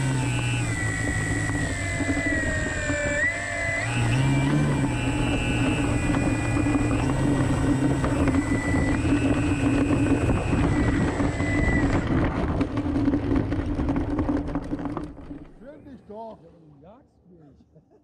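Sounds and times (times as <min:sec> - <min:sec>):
model plane motor droning: 0:00.0 - 0:15.6.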